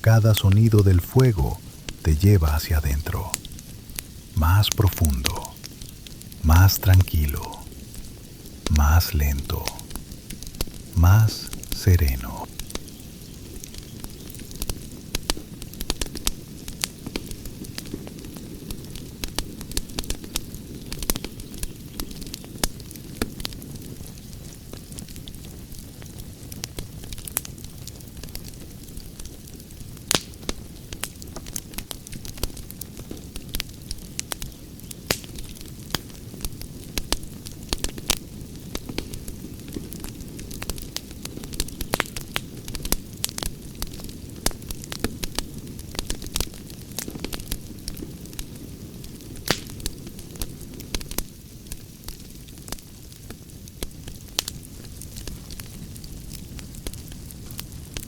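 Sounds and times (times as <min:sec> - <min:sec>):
campfire crackling and popping: 0:02.8 - 0:58.0.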